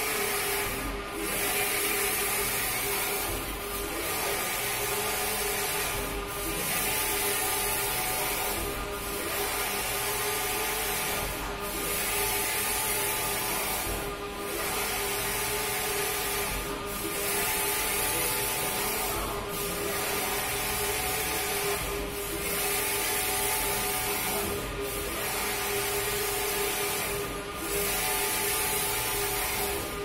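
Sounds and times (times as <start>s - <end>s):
printer carriage whirring: 0.0s - 30.0s
printer hum: 0.0s - 30.0s.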